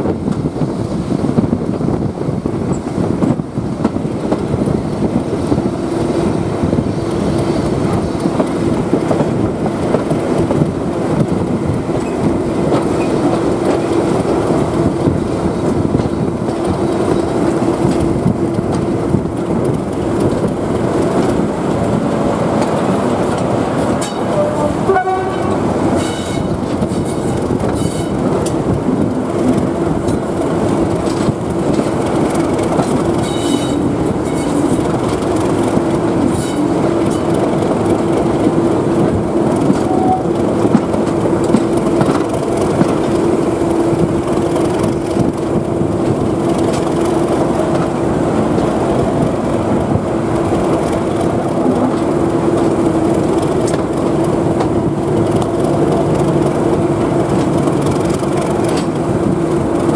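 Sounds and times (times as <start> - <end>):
diesel locomotive engine: 0.0 - 59.9
wheel-on-rail noise: 0.0 - 59.9.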